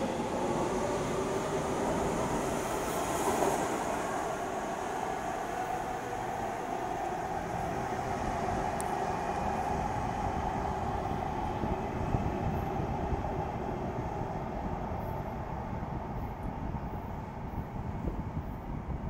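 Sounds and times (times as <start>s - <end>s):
subway train departing: 0.0s - 19.0s.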